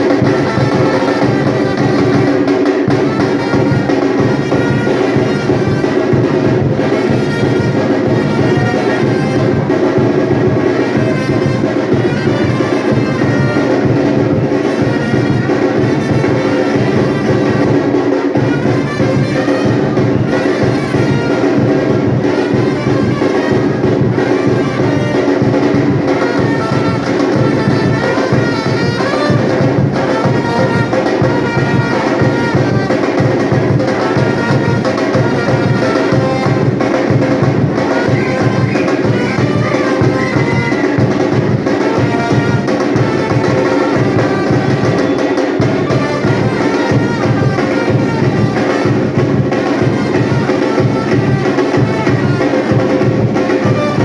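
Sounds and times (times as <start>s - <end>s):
brass horns playing tune: 0.0s - 54.0s
drums beating: 0.0s - 54.0s.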